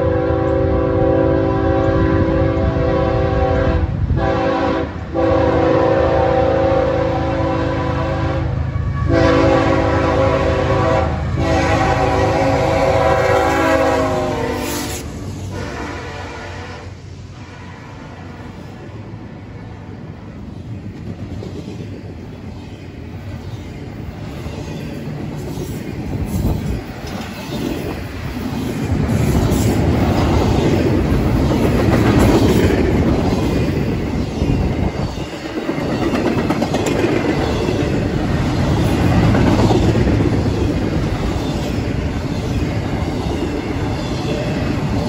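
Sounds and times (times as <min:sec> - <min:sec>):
freight train rumbling: 0:00.0 - 0:45.0.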